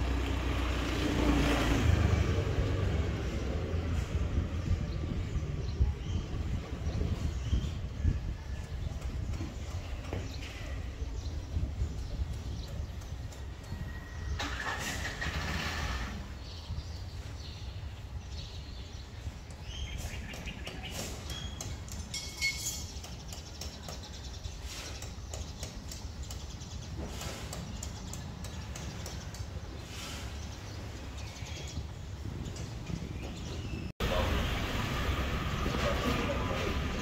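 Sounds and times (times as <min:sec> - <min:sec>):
small birds chirping: 0:02.1 - 0:14.4, 0:16.3 - 0:34.3.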